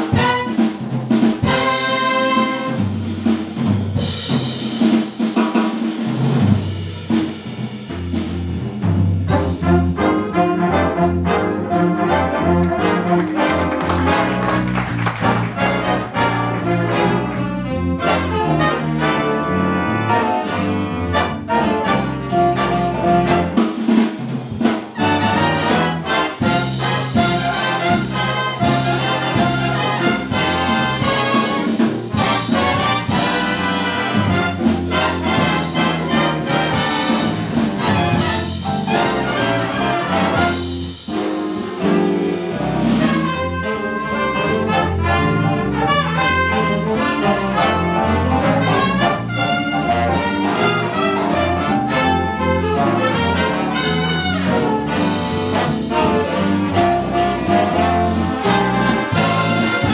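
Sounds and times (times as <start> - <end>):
saxophone section: 0.0 - 0.7, 1.4 - 2.9, 9.3 - 23.7, 25.0 - 40.9, 42.8 - 59.9
brass section: 0.0 - 3.4, 9.3 - 24.1, 24.9 - 59.9
piano: 0.0 - 59.9.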